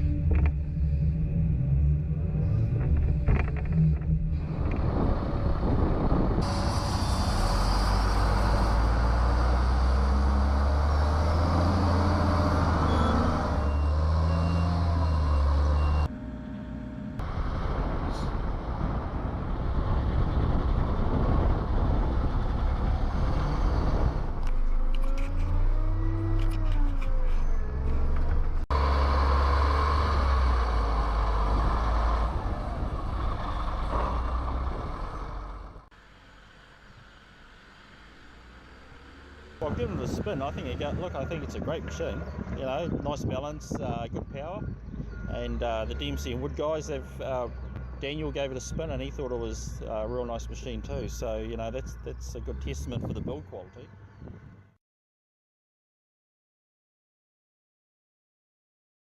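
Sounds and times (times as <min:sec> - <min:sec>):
excavator diesel engine: 0:00.0 - 0:43.8, 0:44.6 - 0:53.6.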